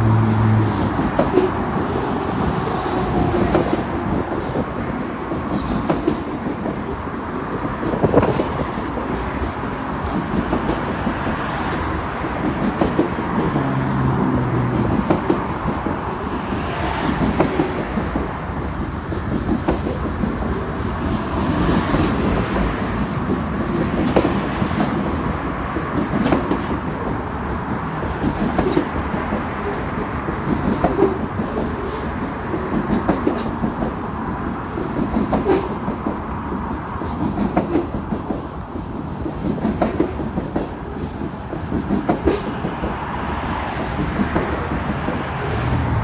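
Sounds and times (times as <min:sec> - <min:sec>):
train wheels rumbling on rail: 0:00.0 - 0:46.0
wheels clacking over rail joints: 0:00.0 - 0:46.0.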